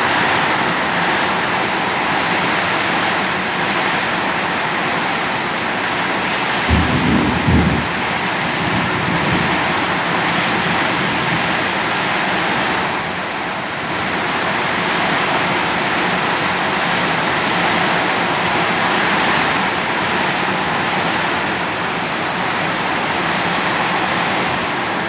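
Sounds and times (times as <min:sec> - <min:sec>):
heavy rain: 0:00.0 - 0:25.0
strong wind: 0:00.0 - 0:25.0.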